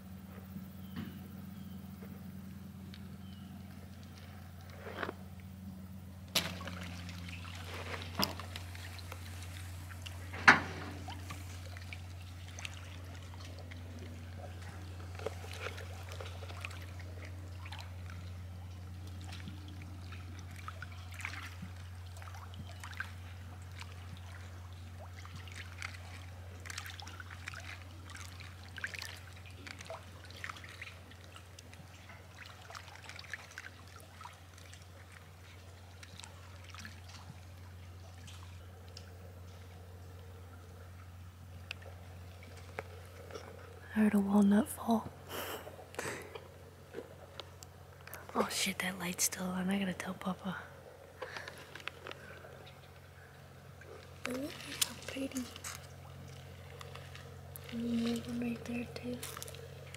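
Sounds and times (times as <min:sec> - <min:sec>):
creek trickling: 0:00.0 - 0:59.9
steady low hum: 0:00.0 - 0:59.9.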